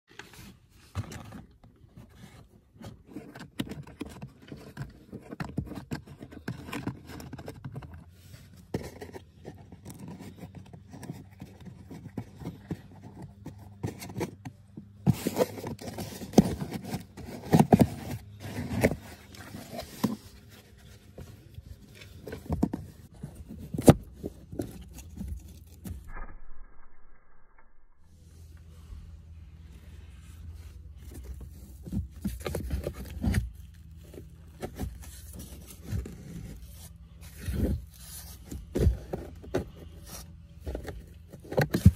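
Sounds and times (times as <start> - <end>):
plastic scraping and rubbing: 0.1 - 26.2, 30.6 - 41.9.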